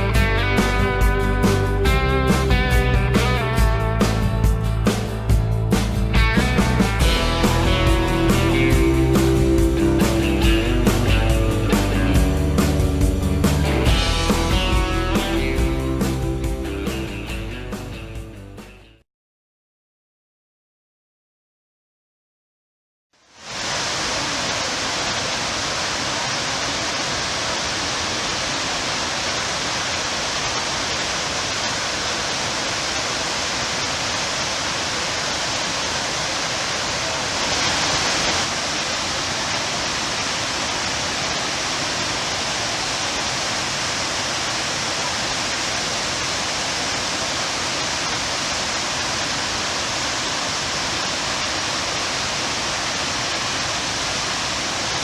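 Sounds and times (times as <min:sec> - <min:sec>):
waterfall rushing: 0:00.0 - 0:16.6, 0:23.2 - 0:55.0.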